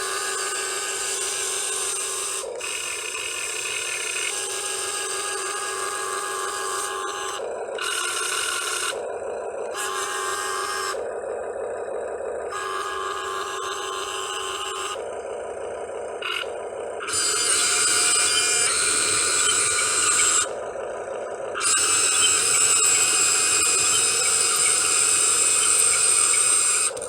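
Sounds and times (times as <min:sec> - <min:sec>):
toy excavator motors whirring: 0:00.0 - 0:27.0.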